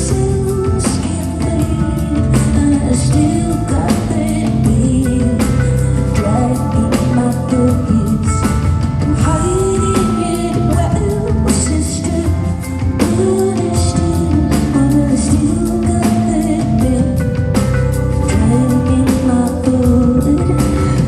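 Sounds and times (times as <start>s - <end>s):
live band playing: 0.0s - 21.0s
woman singing: 0.0s - 21.0s.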